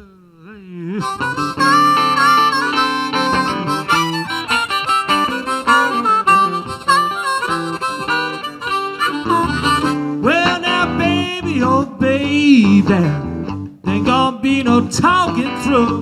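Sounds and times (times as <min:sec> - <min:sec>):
blues harmonica with bent notes: 0:00.0 - 0:16.0
guitar accompaniment: 0:00.0 - 0:16.0.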